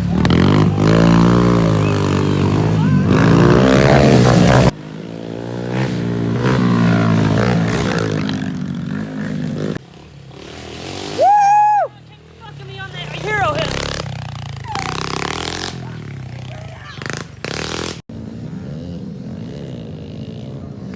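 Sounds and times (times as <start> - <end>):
pit bike engines revving: 0.0 - 20.9.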